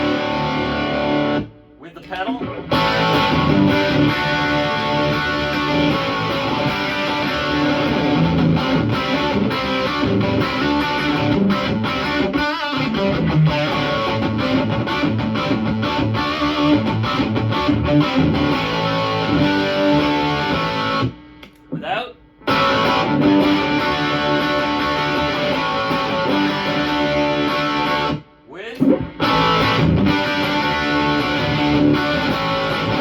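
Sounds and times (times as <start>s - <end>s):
overdriven electric guitar: 0.0s - 21.6s, 22.4s - 33.0s.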